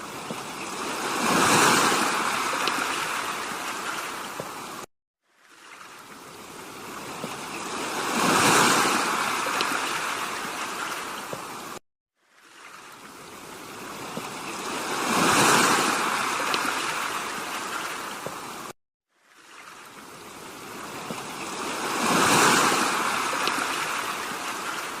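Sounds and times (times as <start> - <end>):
sea waves washing onto shore: 0.0 - 25.0.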